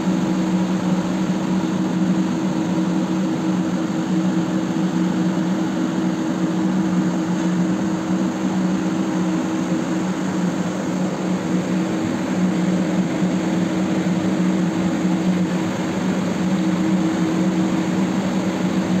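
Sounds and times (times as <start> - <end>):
engine room machinery drone: 0.0 - 19.0.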